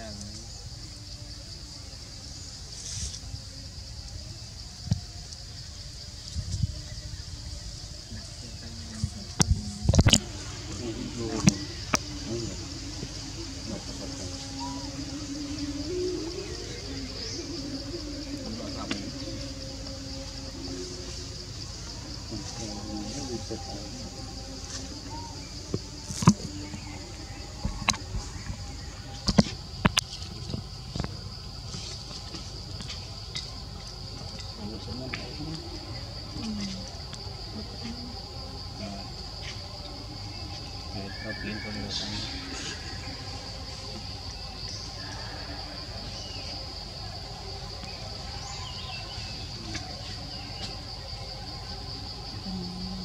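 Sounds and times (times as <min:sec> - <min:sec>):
insects buzzing: 0:00.0 - 0:53.0.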